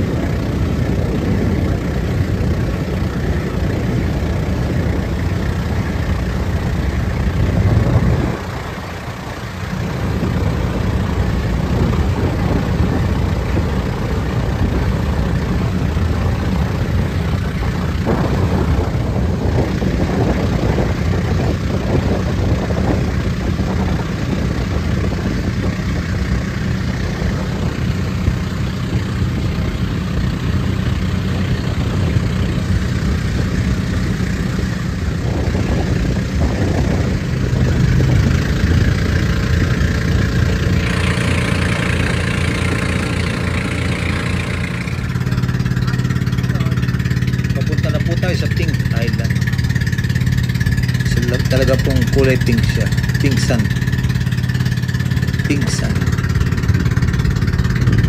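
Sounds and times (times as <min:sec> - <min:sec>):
boat engine droning: 0:00.0 - 0:58.0
wind: 0:00.0 - 0:58.0.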